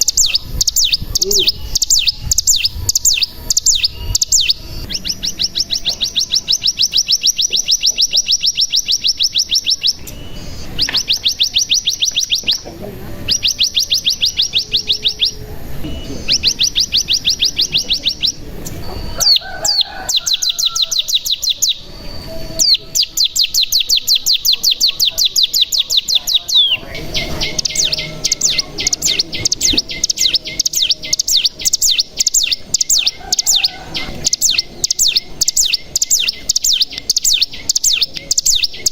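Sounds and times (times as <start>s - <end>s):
bird chirps: 0.0s - 38.9s
bird singing fast trills: 0.0s - 38.9s.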